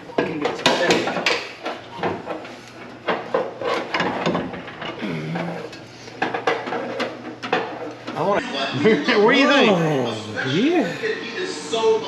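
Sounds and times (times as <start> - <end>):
steady low hum: 1.5 - 11.3.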